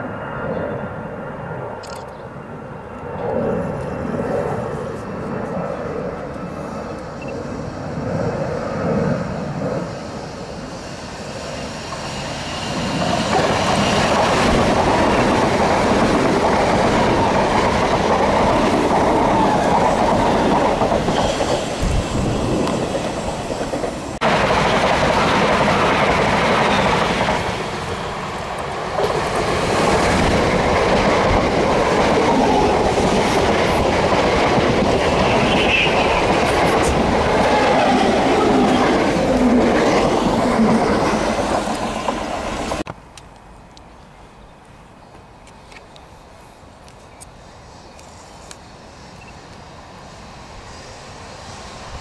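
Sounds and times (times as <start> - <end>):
electric train running past: 0.0 - 42.9, 45.4 - 52.0.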